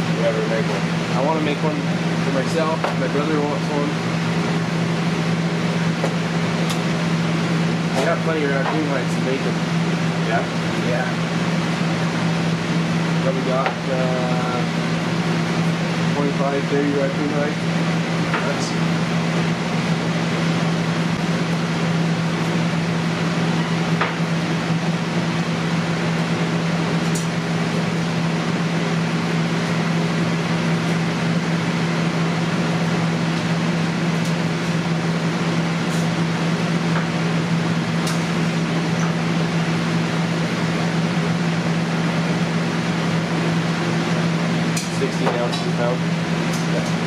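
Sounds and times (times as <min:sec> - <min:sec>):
kitchen equipment fan hum: 0:00.0 - 0:47.0.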